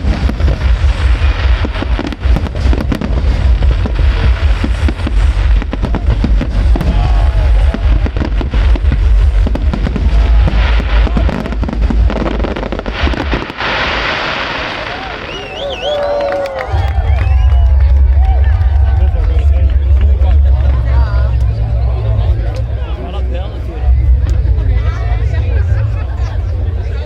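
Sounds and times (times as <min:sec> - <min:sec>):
fireworks bangs and crackles: 0:00.0 - 0:22.8
low rumble: 0:00.0 - 0:27.0.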